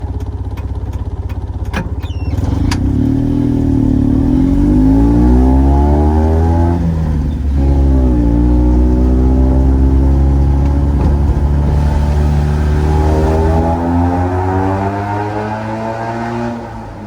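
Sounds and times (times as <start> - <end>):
truck engine accelerating: 0.0 - 17.0.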